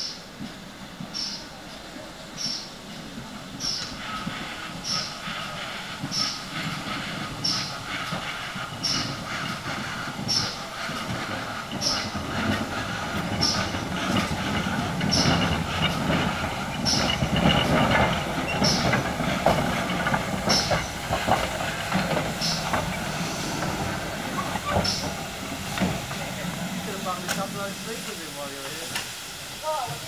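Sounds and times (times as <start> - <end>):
steam locomotive chuffing: 0.0 - 30.0
wheels rumbling on rail: 0.0 - 30.0.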